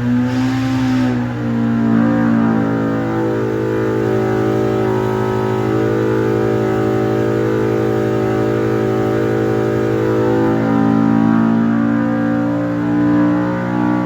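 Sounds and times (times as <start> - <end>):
engine running on a dynamometer: 0.0 - 14.0.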